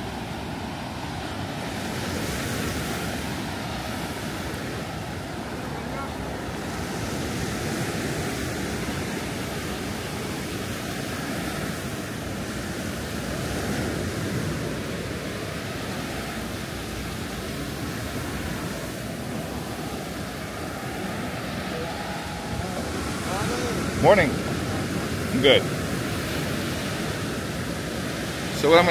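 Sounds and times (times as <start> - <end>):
ocean waves breaking on beach: 0.0 - 28.9.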